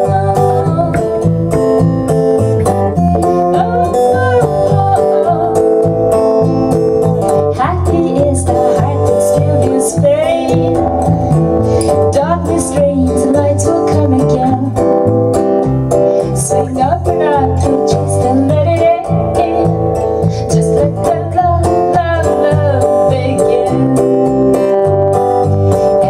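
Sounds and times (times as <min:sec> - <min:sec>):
woman singing: 0:00.0 - 0:01.8, 0:03.0 - 0:11.2, 0:11.8 - 0:14.9, 0:16.2 - 0:24.9
acoustic guitar strummed: 0:00.0 - 0:26.0
electric bass line: 0:00.0 - 0:26.0.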